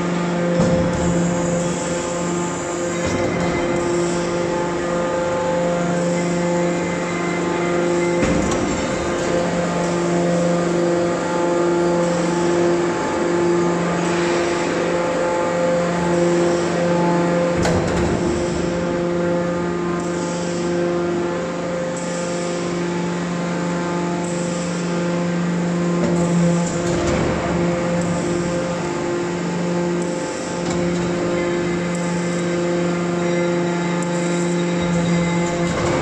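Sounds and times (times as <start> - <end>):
hydraulic motor humming: 0.0 - 36.0.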